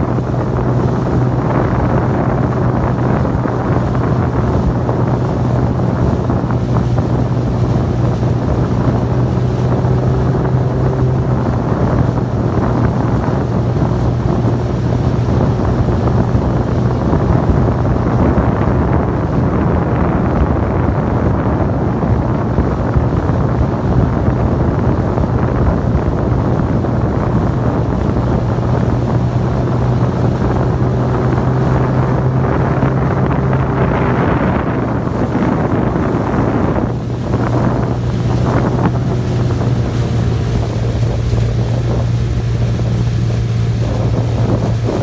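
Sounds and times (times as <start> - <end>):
outboard motor running: 0.0 - 45.0
wind buffeting microphone: 0.0 - 45.0.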